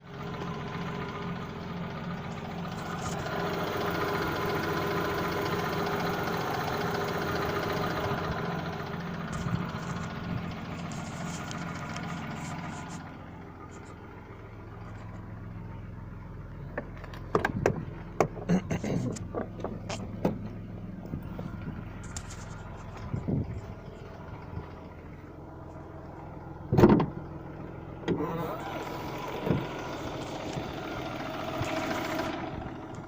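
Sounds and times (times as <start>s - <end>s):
car engine idling with knock: 0.0s - 33.0s.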